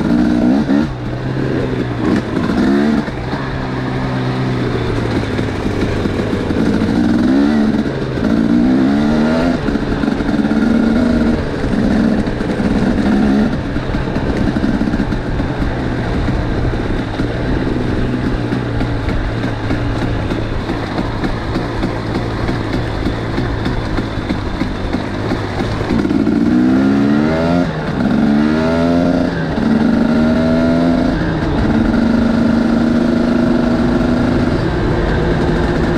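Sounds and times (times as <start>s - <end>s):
dirt bike engines revving: 0.0s - 35.9s.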